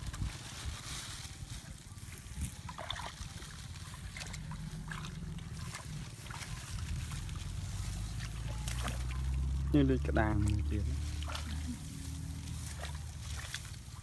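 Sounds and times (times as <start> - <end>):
steady low rumble: 1.8 - 14.0
hands splashing in muddy water: 2.4 - 14.0.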